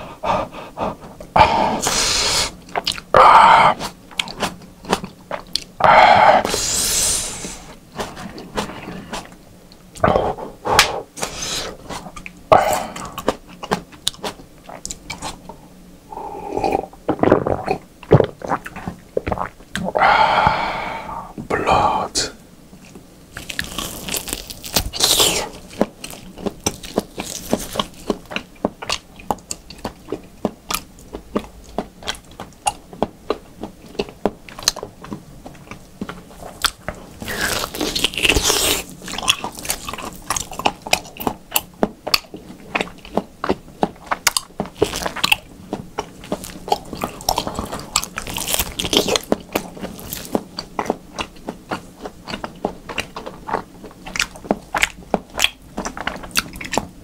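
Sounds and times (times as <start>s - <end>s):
biting and chewing raw meat: 0.6s - 6.6s, 7.6s - 15.6s, 22.8s - 57.0s.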